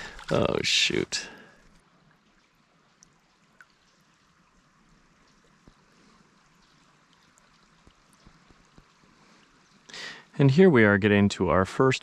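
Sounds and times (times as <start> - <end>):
creek water flowing: 0.0 - 11.9.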